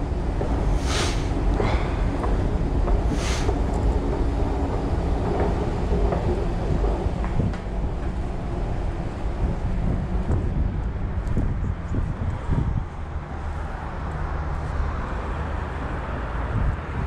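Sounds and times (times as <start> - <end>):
low station rumble: 0.0 - 17.0.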